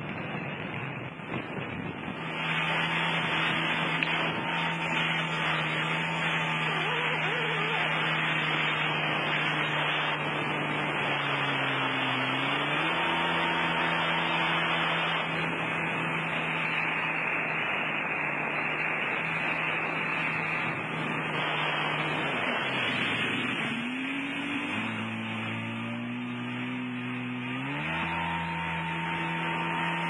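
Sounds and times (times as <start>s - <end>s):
personal watercraft engine: 0.0s - 30.0s
water and wind rushing: 0.0s - 30.0s.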